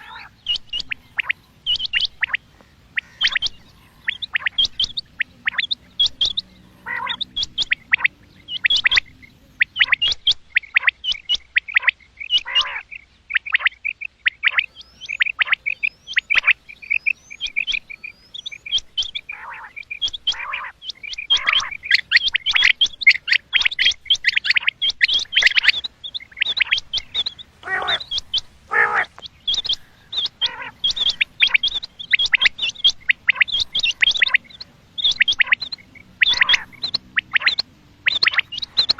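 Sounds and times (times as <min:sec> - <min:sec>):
quail calling: 0:00.0 - 0:38.9.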